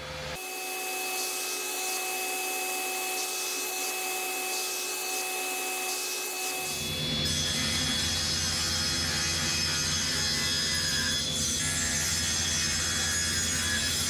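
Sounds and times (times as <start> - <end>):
table saw whirring hum: 0.0 - 14.0.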